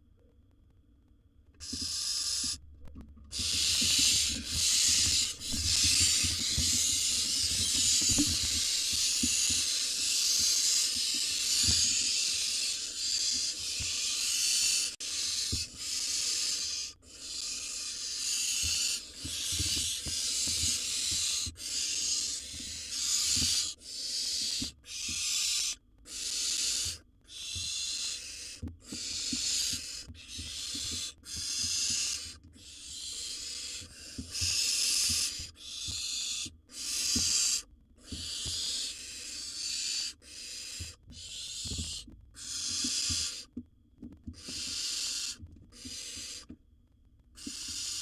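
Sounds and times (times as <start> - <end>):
owl nestlings hissing: 1.6 - 2.6, 3.3 - 43.5, 44.4 - 46.5, 47.4 - 48.0.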